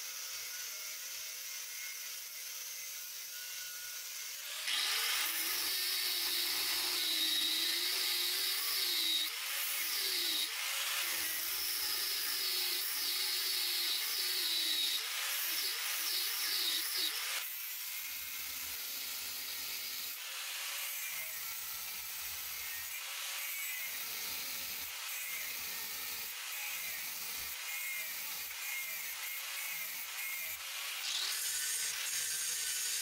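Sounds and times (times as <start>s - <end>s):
angle grinder cutting metal: 0.0s - 33.0s.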